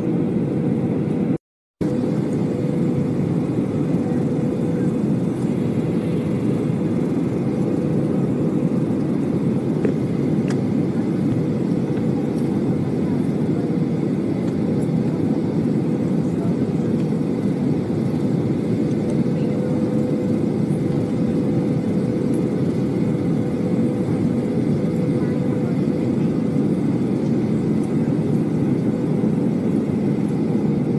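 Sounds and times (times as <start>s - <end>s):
jet engine and airflow noise: 0.0s - 30.9s.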